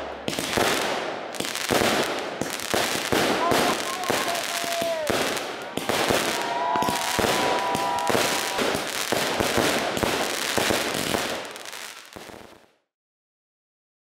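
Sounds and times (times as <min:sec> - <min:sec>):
fireworks bangs and crackles: 0:00.0 - 0:12.8.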